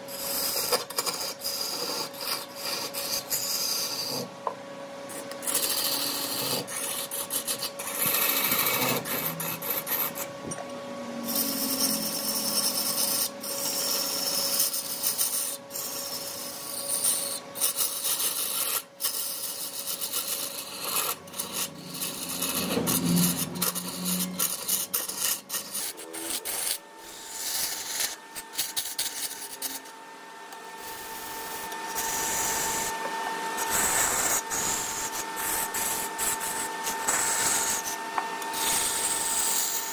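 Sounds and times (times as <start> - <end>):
turning tool rasping on wood: 0.0 - 4.3, 5.1 - 10.4, 11.2 - 30.0, 30.8 - 39.9
wood lathe motor hum: 0.0 - 39.9.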